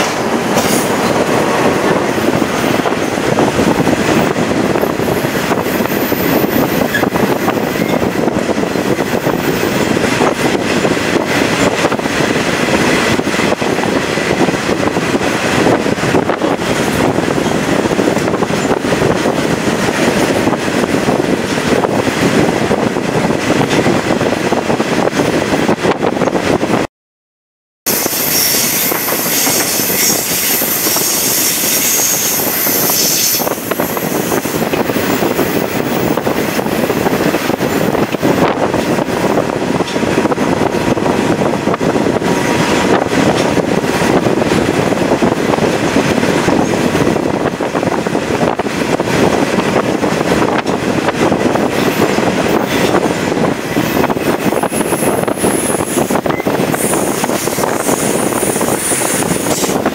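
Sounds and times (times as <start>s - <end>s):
train wheels rushing on rail: 0.0s - 26.9s, 27.9s - 59.9s
wind past moving train: 0.0s - 26.9s, 27.9s - 59.9s.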